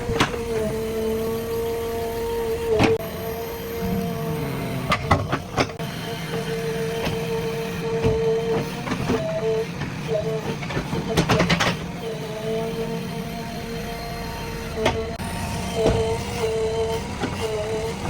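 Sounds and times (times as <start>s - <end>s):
backhoe diesel engine rumble: 0.0s - 18.0s.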